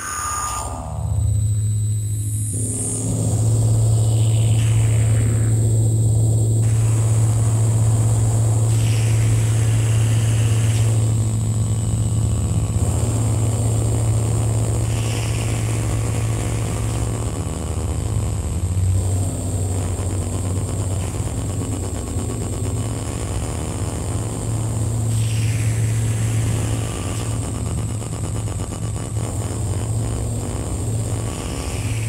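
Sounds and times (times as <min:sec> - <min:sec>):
dense electronic noise: 0:00.0 - 0:32.0
high whine: 0:00.0 - 0:32.0
low hum: 0:00.0 - 0:32.0.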